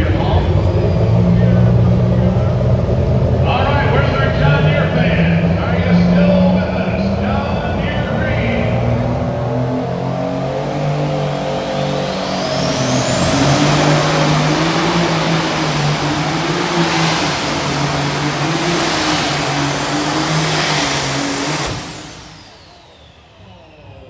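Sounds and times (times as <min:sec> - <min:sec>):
diesel tractor engine at full power: 0:00.0 - 0:24.0
turbo whine: 0:00.0 - 0:24.0.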